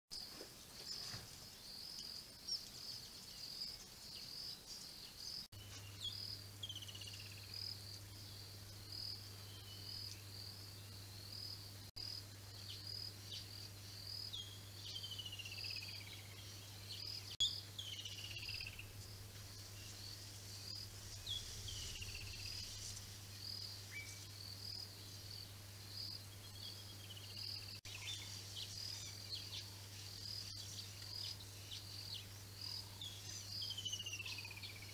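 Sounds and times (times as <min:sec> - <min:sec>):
insect chirping: 0:01.5 - 0:34.9.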